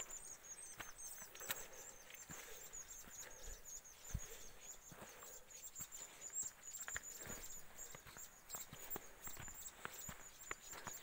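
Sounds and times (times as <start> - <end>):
footsteps in snow: 0.0 - 11.0
small birds chirping: 0.0 - 11.0.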